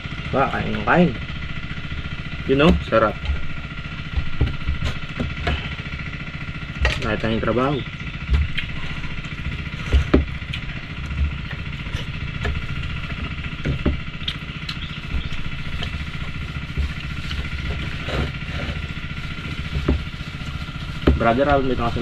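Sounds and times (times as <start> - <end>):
small engine chugging: 0.0 - 22.0.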